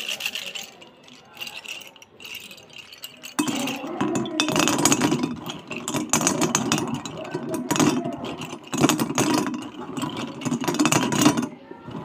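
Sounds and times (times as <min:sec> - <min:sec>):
pencils rattling in hand: 0:00.0 - 0:12.0.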